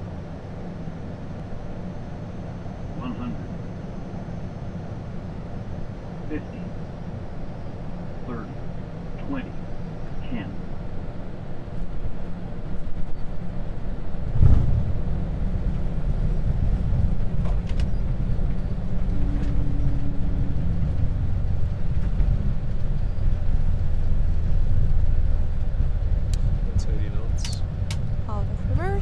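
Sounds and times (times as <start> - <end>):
wheels and engines rumbling: 0.0 - 29.0.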